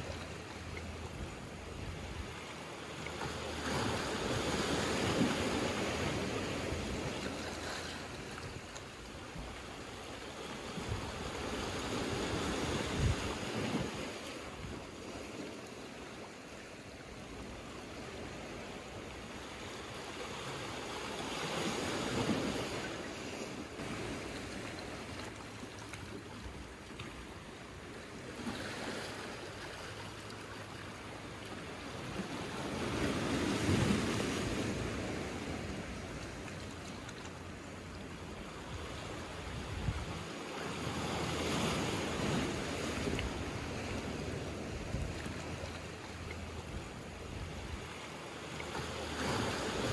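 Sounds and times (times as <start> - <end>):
waves washing over rocks and pebbles: 0.0 - 49.9.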